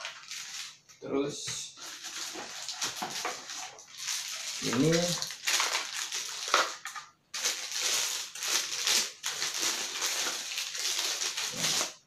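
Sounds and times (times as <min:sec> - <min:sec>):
plastic packaging crinkling: 0:00.0 - 0:01.0, 0:01.8 - 0:12.0.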